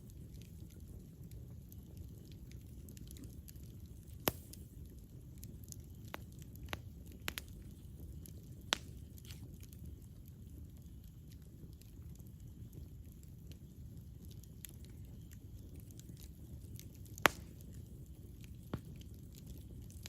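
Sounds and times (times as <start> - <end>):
burning wood popping: 0.0 - 20.0
campfire flame rumble: 0.0 - 20.0.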